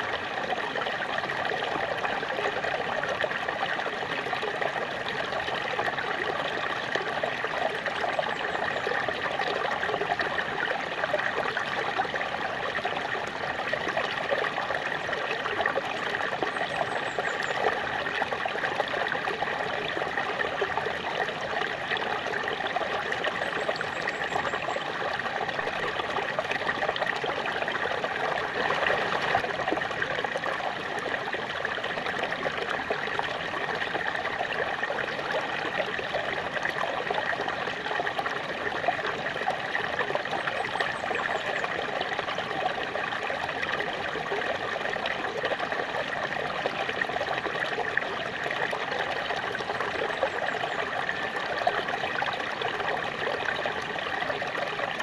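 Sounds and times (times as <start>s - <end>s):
small waterfall splashing: 0.0s - 55.0s.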